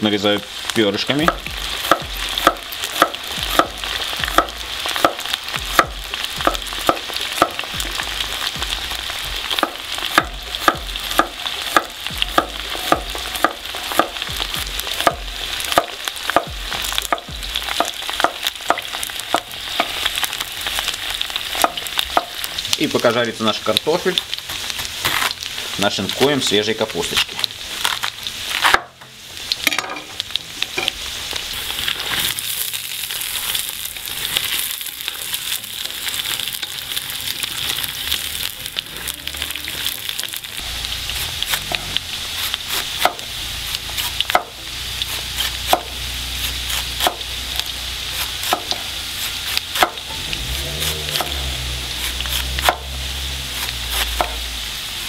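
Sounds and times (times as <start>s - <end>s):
potatoes sizzling in hot oil: 0.0s - 55.0s.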